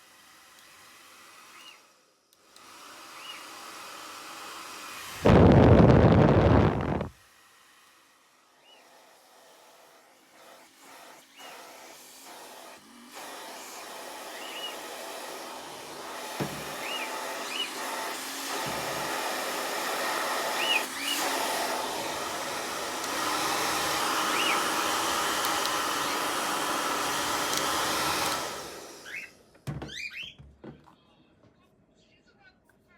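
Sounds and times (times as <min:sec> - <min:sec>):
hair dryer blowing: 0:00.0 - 0:29.5.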